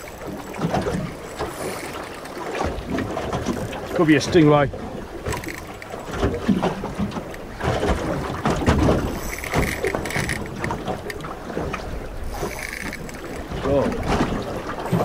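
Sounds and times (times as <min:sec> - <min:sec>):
waves slapping boat hull: 0:00.0 - 0:15.0.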